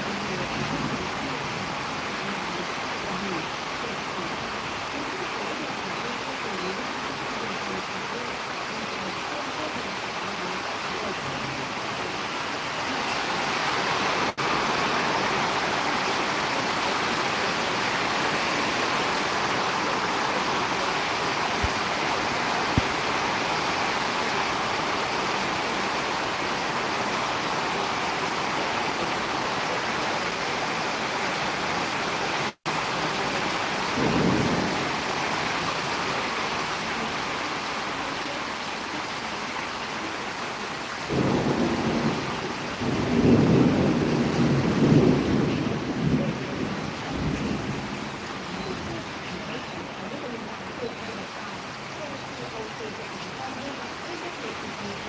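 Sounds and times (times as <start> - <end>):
rain hissing: 0.0 - 55.0.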